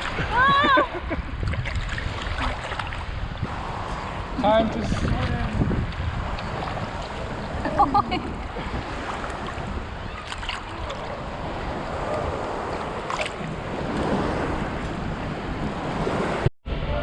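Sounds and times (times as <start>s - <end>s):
wind buffeting microphone: 0.0s - 16.5s
ocean surf washing: 0.0s - 17.0s.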